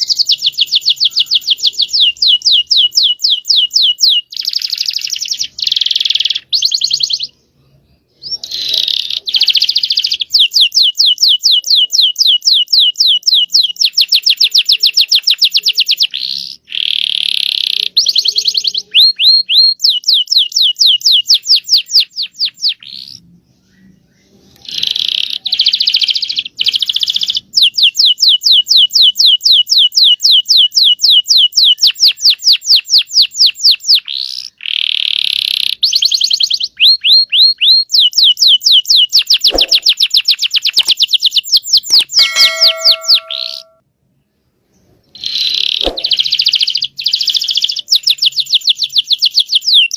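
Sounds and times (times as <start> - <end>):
canary singing trills: 0.0 - 43.8, 45.0 - 49.9.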